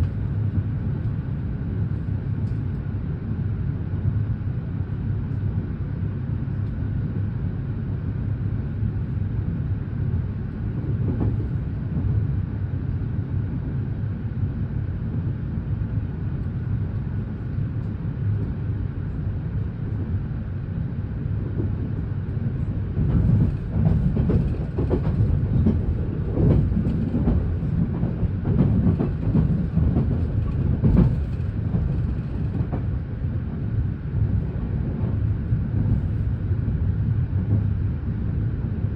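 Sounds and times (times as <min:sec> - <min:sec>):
train interior rumble: 0:00.0 - 0:38.9.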